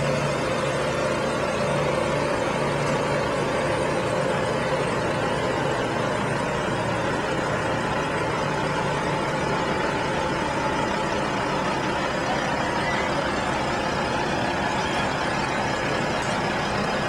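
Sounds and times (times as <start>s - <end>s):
diesel truck engine under load: 0.0s - 17.0s.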